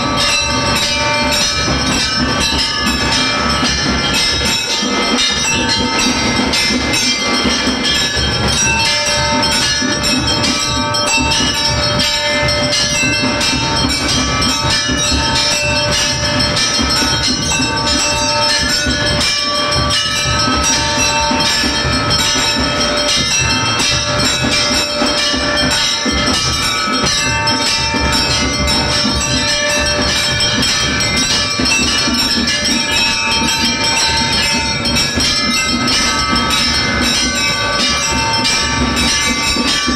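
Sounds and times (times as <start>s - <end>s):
temple bells ringing: 0.0s - 39.9s.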